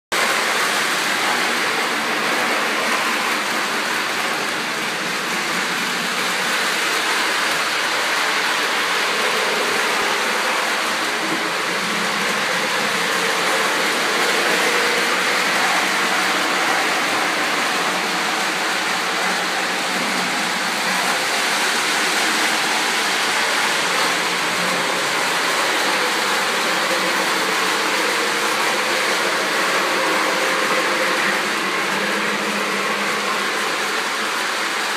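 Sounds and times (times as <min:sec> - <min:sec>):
model train rolling on track: 0:00.1 - 0:34.9.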